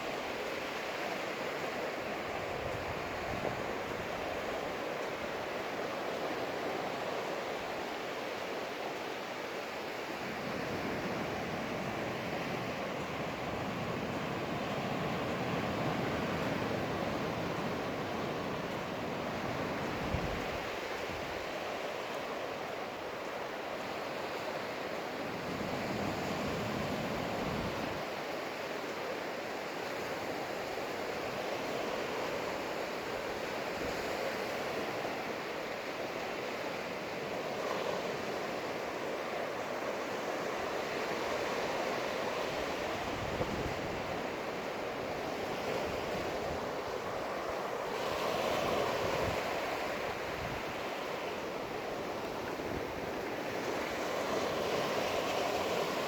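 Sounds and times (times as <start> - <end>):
ocean surf washing onto beach: 0.0 - 56.0.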